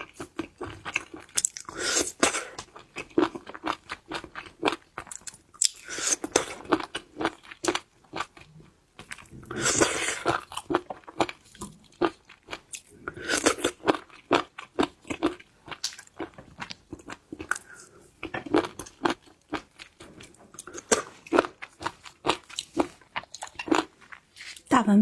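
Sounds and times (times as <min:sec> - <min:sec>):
crunching and chewing seafood: 0:00.0 - 0:24.7.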